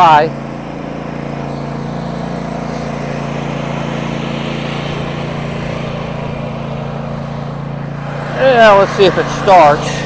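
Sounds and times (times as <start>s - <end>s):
mower engine running: 0.0s - 10.0s.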